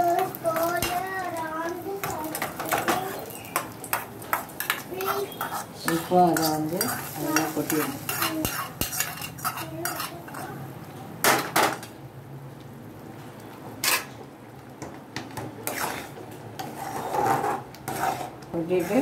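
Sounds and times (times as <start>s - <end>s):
metal spoon stirring in pan: 0.0s - 10.7s, 13.8s - 19.0s.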